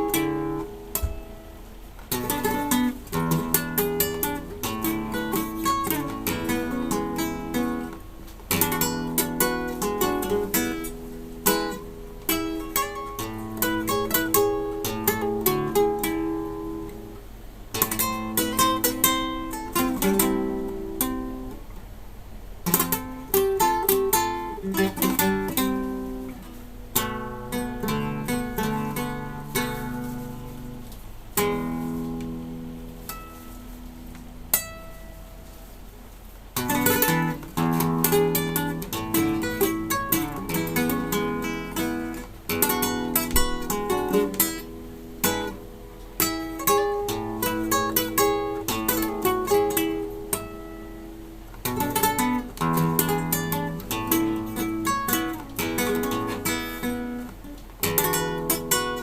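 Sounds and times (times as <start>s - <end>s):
classical guitar playing: 0.0s - 35.9s, 36.5s - 59.0s.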